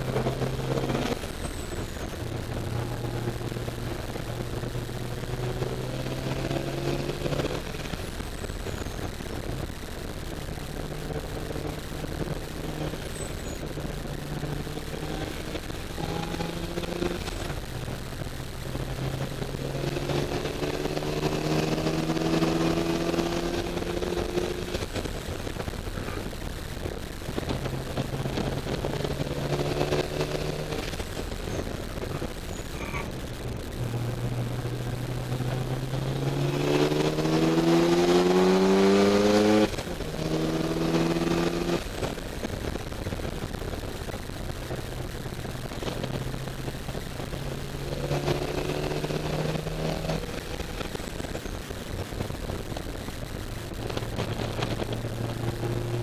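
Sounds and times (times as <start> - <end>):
rotary engine accelerating: 0.0 - 56.0.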